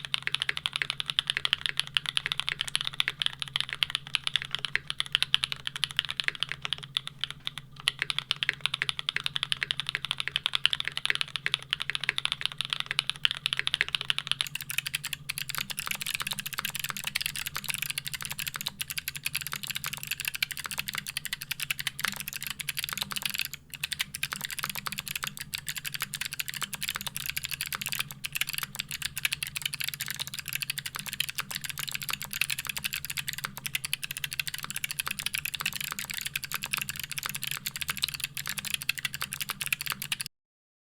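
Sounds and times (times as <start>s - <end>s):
mechanical keyboard typing: 0.0s - 40.3s.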